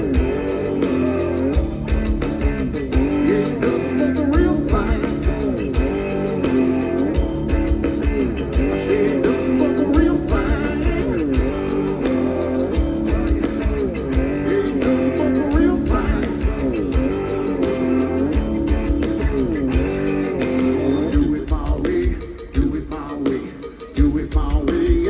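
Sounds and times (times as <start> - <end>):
electric guitar lead lines: 0.0 - 22.1
blues-rock band music: 0.0 - 25.0
steady drum beat: 0.0 - 25.0.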